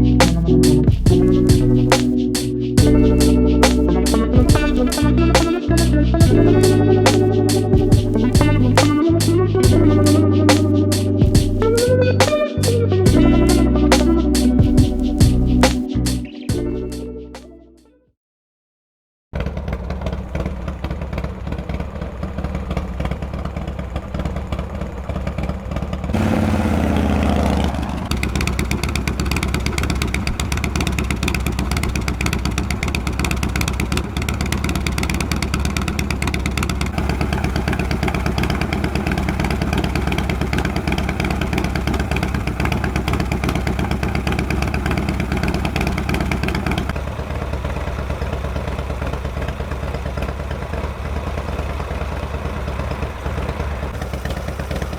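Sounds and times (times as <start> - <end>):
motorcycle engine idling: 0.0 - 2.0, 2.8 - 12.0, 19.4 - 54.9
motorcycle engine rev: 2.8 - 12.4, 19.4 - 54.9.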